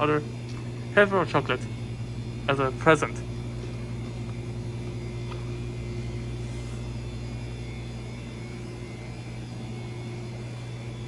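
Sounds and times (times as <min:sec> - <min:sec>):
refrigeration equipment hum: 0:00.0 - 0:11.0.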